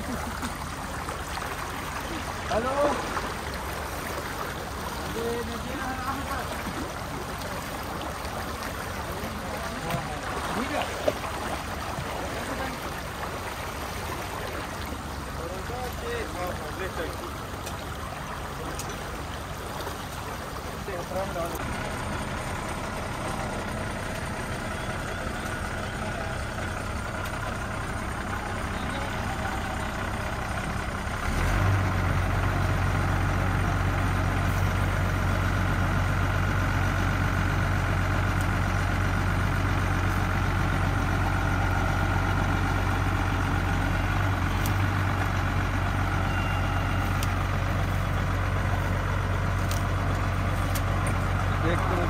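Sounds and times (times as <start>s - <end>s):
drilling rig truck engine running: 0.0s - 52.0s.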